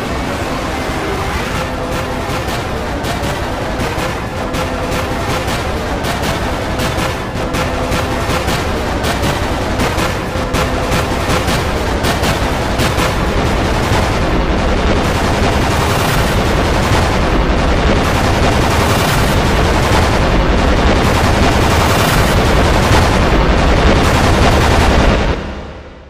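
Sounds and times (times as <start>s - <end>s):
dense wall of noise: 0.0s - 26.0s.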